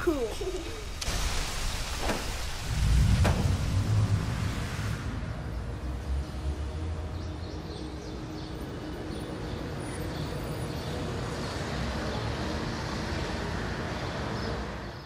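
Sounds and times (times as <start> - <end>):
passing road traffic: 2.7 - 15.0.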